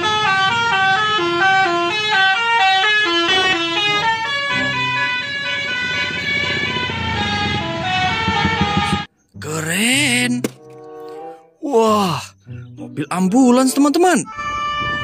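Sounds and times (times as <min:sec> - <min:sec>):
musical bus horn tune: 0:00.0 - 0:09.1, 0:09.8 - 0:11.6, 0:13.7 - 0:15.0.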